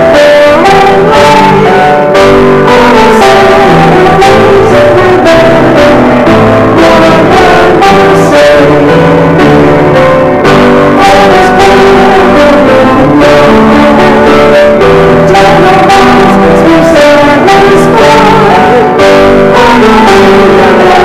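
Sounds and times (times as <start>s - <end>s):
hymn on piano: 0.0s - 21.0s.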